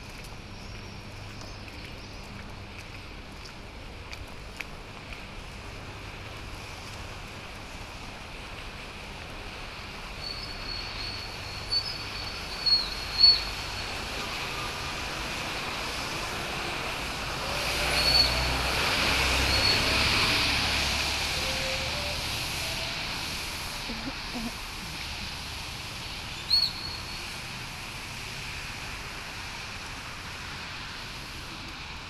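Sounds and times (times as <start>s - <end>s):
traffic on a flooded road: 0.0s - 32.0s.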